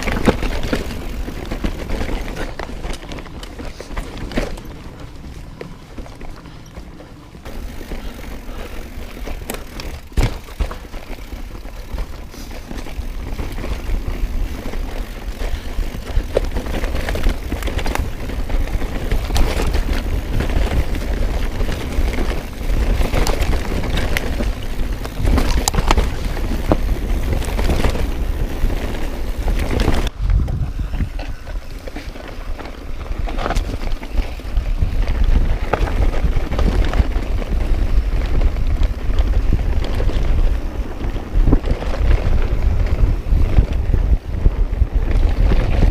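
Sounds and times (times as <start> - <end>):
bike chain and frame rattling: 0.0 - 45.9
bike tyres rolling on dirt: 0.0 - 45.9.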